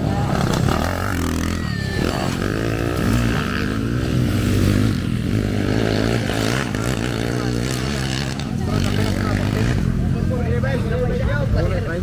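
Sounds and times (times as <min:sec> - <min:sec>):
people talking: 0:00.0 - 0:03.9, 0:05.8 - 0:12.0
dirt bike engine revving: 0:00.0 - 0:10.3.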